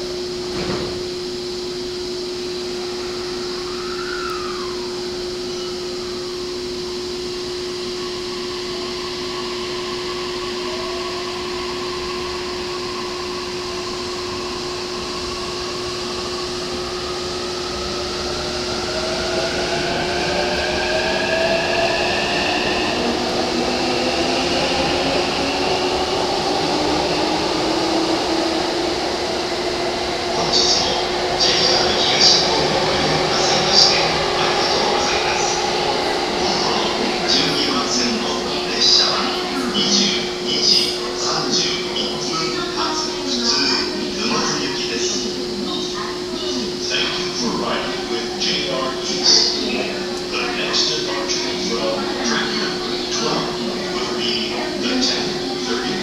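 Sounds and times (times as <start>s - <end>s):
electric train whine accelerating: 0.0s - 56.0s
train equipment humming: 0.0s - 56.0s.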